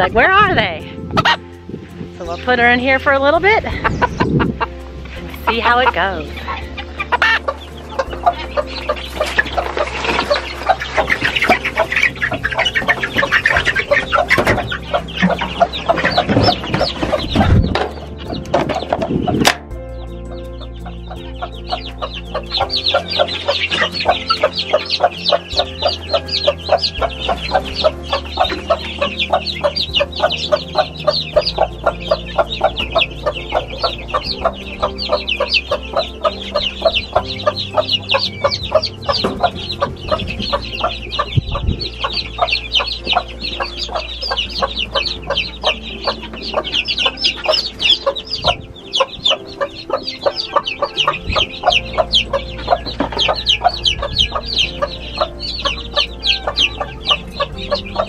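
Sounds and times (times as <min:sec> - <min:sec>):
hen clucking: 0:00.0 - 0:01.5, 0:03.0 - 0:19.6, 0:20.3 - 0:58.0
chicks peeping: 0:00.0 - 0:58.0.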